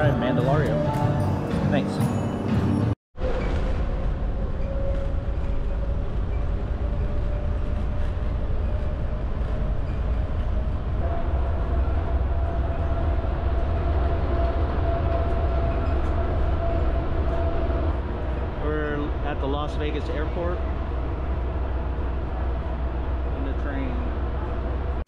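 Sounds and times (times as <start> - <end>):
train car running rumble: 0.0 - 25.0.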